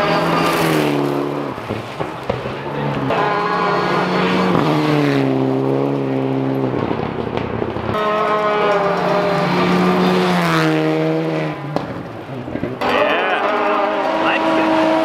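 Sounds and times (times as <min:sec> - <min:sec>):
rally car engines passing: 0:00.0 - 0:15.0.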